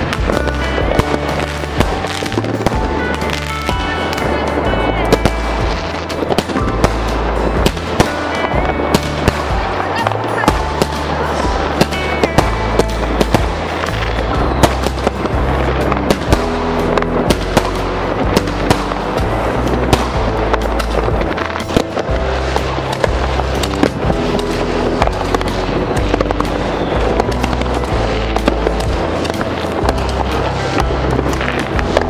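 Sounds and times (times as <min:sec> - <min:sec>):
background music with bass line: 0:00.0 - 0:32.0
fireworks bangs and crackles: 0:00.0 - 0:32.0.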